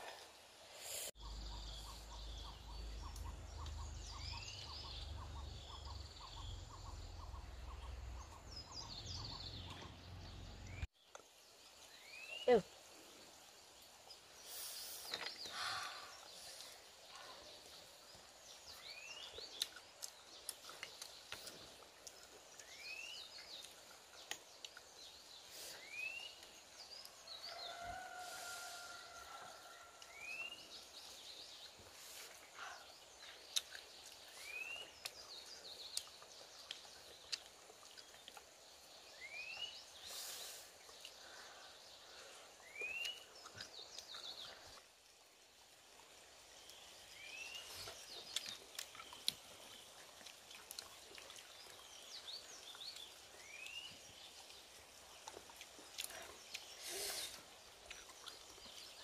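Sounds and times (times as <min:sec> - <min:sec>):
forest background: 0:00.0 - 0:59.0.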